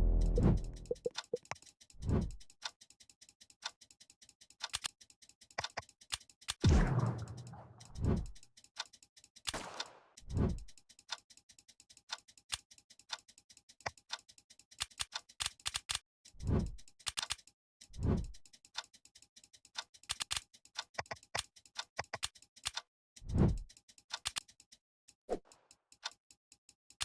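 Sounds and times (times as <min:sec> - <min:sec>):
rapid ticking clicks: 0:00.2 - 0:27.0.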